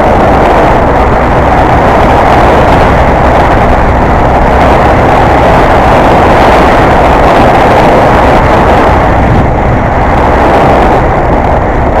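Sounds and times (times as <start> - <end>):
motorcycle engine and wind rush: 0.0 - 12.0.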